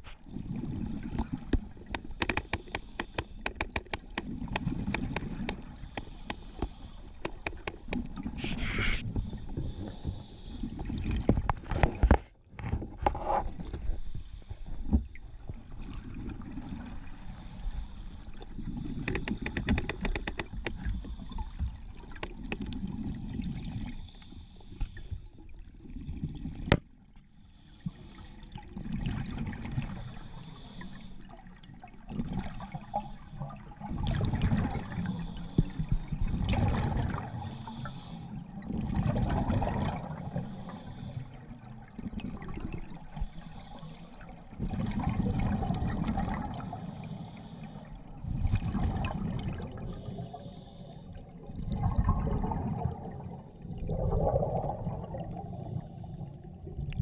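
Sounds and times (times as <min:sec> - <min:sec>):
exhaled bubbles gurgling underwater: 0:00.0 - 0:57.0.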